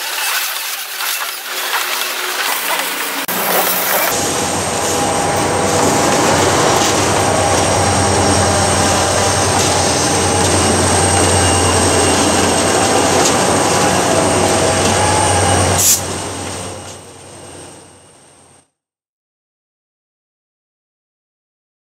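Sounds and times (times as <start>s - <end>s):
diesel locomotive engines humming: 0.0s - 18.6s
high-pitched squeal: 0.0s - 18.6s
train wheels on rails: 0.0s - 18.6s.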